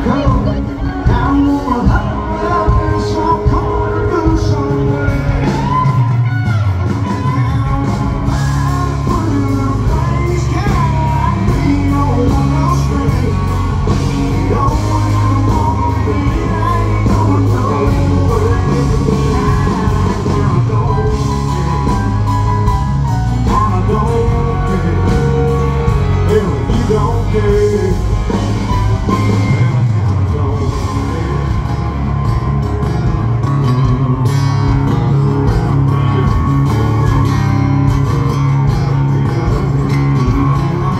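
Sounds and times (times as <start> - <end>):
man singing lead vocal: 0.0 - 37.4, 38.0 - 40.9
live country band music: 0.0 - 40.9.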